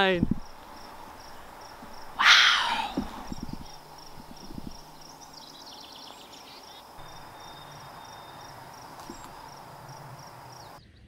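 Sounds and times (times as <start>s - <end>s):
low rumbles: 0.0s - 10.8s
rapid high chirps: 0.0s - 10.8s.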